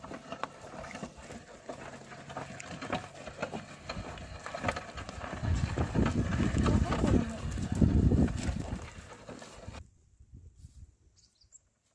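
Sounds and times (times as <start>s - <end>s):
hooves and footsteps on soil: 0.0s - 9.8s.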